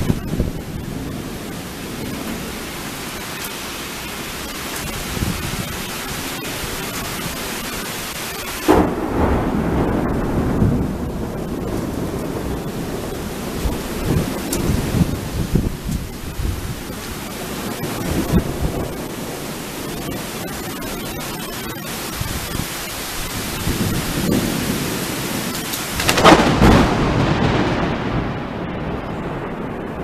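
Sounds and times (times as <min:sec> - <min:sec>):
steady rain hiss: 0:00.0 - 0:30.0
thunder crack and rumble: 0:00.0 - 0:30.0.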